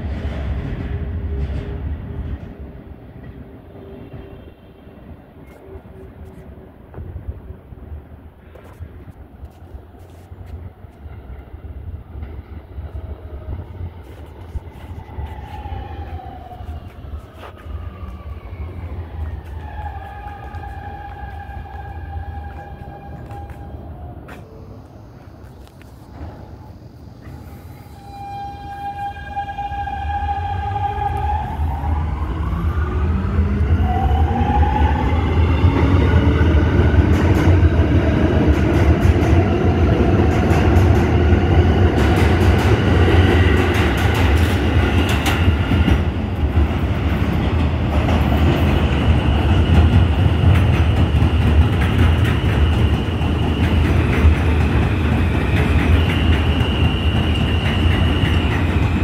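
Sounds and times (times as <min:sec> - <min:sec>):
wheels rumbling on rail: 0:00.0 - 0:59.0.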